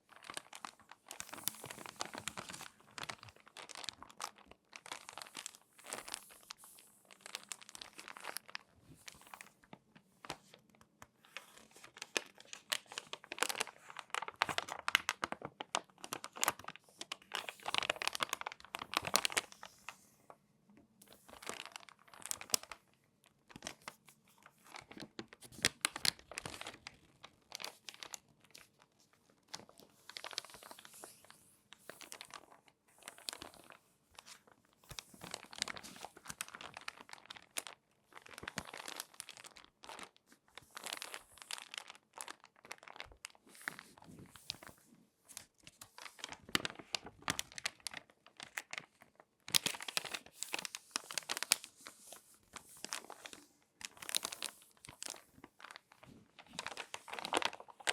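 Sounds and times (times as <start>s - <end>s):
magazine pages crackling: 0.0s - 9.6s, 10.2s - 20.0s, 21.1s - 22.9s, 23.5s - 57.9s.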